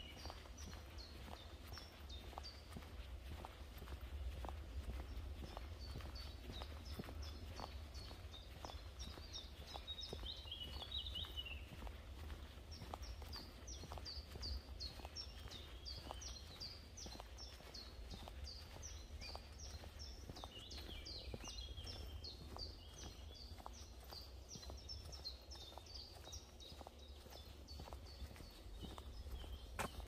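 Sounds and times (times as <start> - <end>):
bird chirping: 0.0 - 30.0
footsteps on forest path: 0.0 - 30.0.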